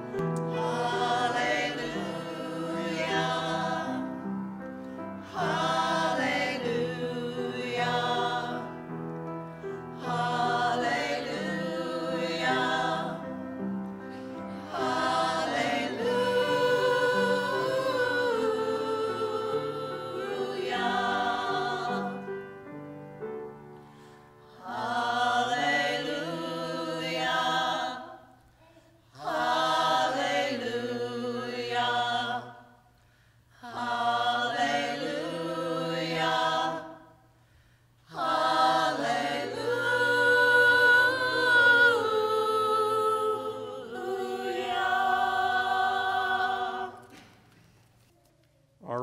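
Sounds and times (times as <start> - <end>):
mixed choir singing: 0.0 - 4.6, 5.2 - 8.9, 9.9 - 22.5, 24.4 - 28.4, 29.1 - 32.9, 33.6 - 37.2, 38.1 - 47.2.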